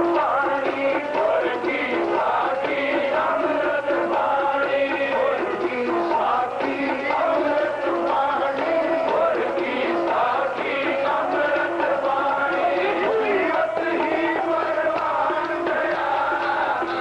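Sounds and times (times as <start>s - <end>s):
harmonium: 0.0s - 17.0s
person singing a hymn: 0.0s - 17.0s.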